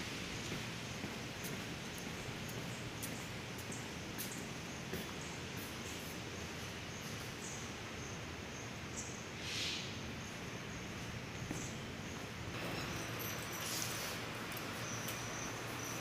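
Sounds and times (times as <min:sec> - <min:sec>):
outdoor background hiss: 0:00.0 - 0:16.0
small birds chirping: 0:00.4 - 0:16.0.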